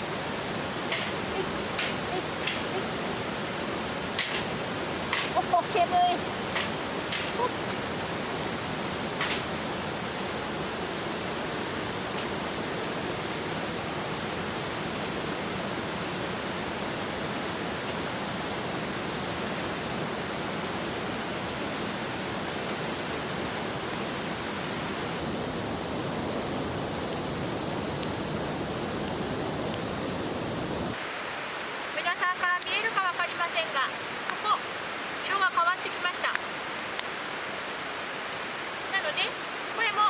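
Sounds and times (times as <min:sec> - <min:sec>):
water rushing: 0:00.0 - 0:40.0.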